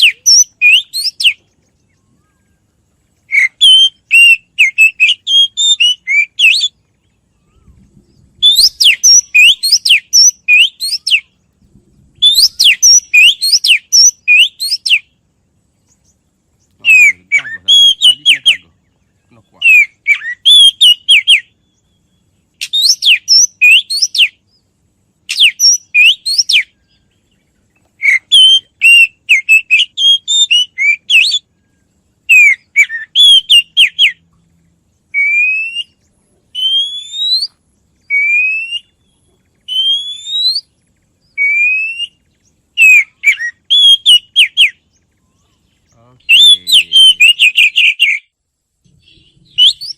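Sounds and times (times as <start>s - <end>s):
bird singing whistled notes: 0.0s - 49.9s.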